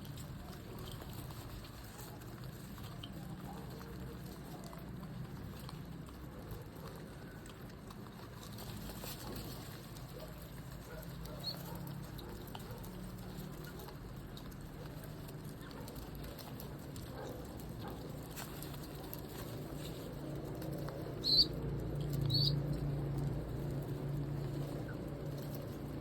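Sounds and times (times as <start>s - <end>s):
faint patter: 0.0s - 26.0s
pigeons flapping: 0.0s - 26.0s.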